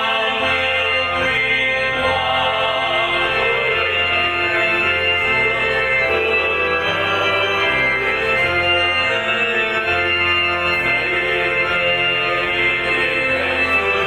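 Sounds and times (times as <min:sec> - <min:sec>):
electronic organ playing a hymn: 0:00.0 - 0:14.0.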